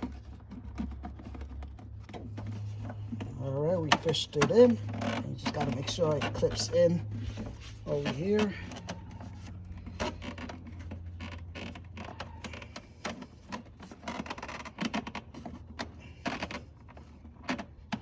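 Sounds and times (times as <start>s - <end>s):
plastic parts clicking and scraping: 0.0s - 18.0s.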